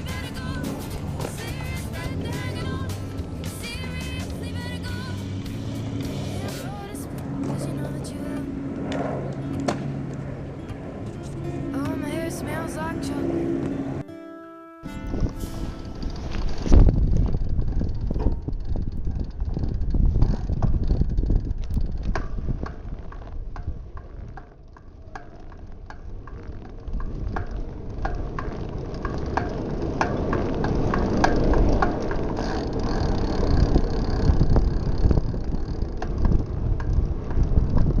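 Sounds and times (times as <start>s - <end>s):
bicycle clicks and rattles: 0.0s - 8.0s, 15.2s - 38.0s
wind buffeting microphone: 0.0s - 14.0s, 14.9s - 38.0s.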